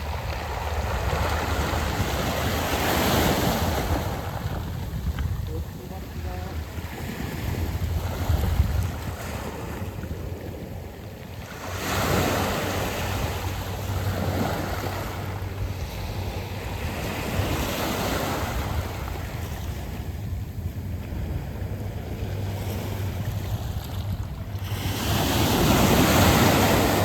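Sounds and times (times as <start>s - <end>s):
waves washing over pebbles: 0.0s - 27.0s
wind rumble on microphone: 0.0s - 27.0s.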